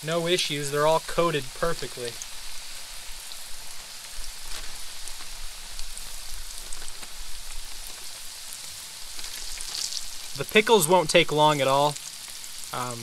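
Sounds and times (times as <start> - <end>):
food sizzling in oil: 0.0 - 13.0
rain falling: 0.0 - 13.0.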